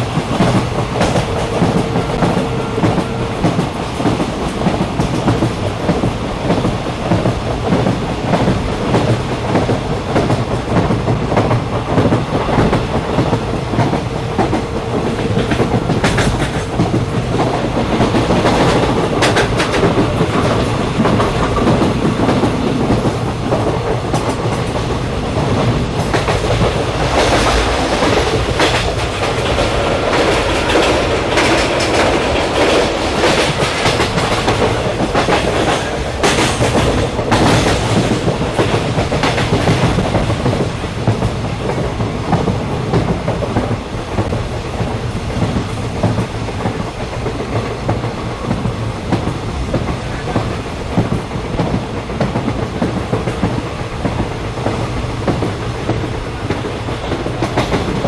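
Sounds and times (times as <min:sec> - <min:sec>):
train rumbling along track: 0:00.0 - 0:58.0
wheels clicking over rail joints: 0:00.1 - 0:58.0.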